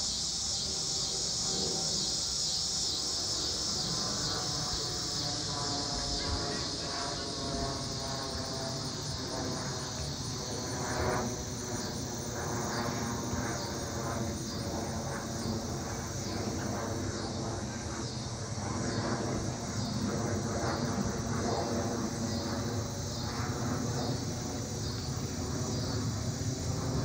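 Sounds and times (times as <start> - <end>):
insects chirping: 0.0 - 27.0
distant jet engine rumble: 0.3 - 27.0.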